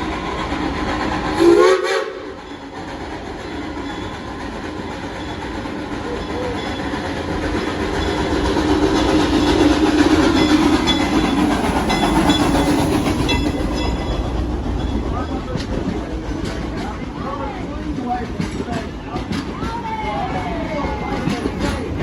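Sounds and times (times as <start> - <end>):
rail clicks: 0.0 - 22.0
train rolling rumble: 0.0 - 22.0.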